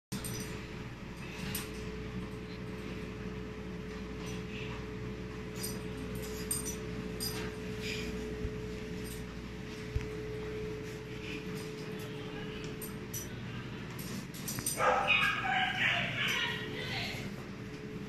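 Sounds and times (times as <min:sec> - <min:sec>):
appliance humming: 0:00.1 - 0:18.0
animals rustling and clicking: 0:00.2 - 0:17.9.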